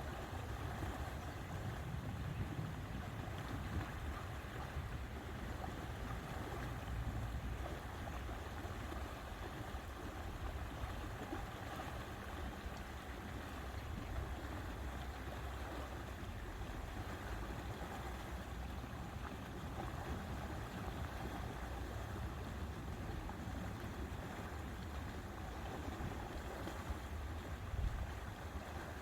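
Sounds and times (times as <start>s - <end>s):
lapping lake water: 0.0s - 29.0s
wind rumbling on microphone: 0.0s - 29.0s.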